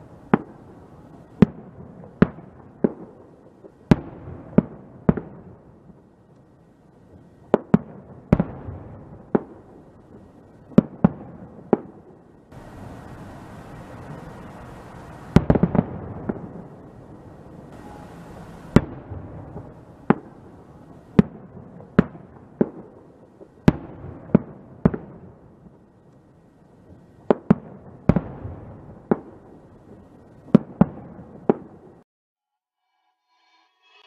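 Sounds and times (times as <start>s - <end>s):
firework bangs: 0.0s - 6.1s, 7.1s - 26.0s, 26.8s - 32.0s.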